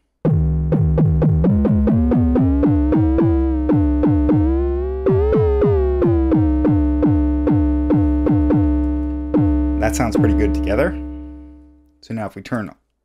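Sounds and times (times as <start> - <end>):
held oscillator tone rising: 0.3 - 11.8
synth percussive hits: 0.3 - 11.9.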